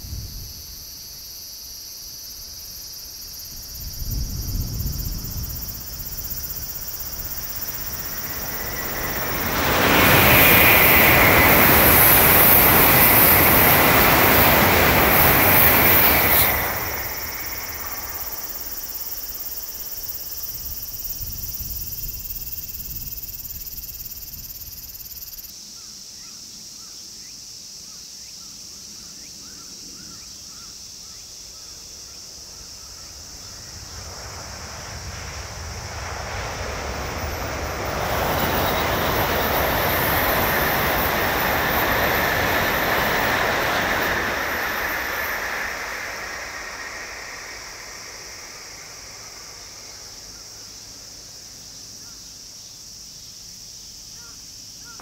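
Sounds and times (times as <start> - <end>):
high-speed train passing: 2.5 - 25.5, 29.1 - 52.2.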